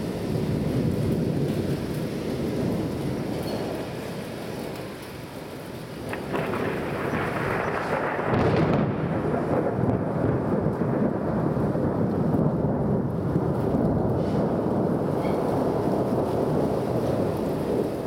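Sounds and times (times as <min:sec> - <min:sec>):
thunder rumbling: 0:00.0 - 0:18.0.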